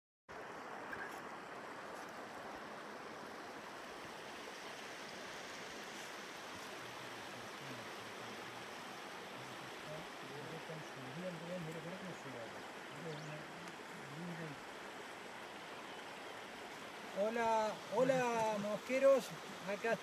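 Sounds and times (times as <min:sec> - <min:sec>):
river water rushing: 0:00.3 - 0:20.0.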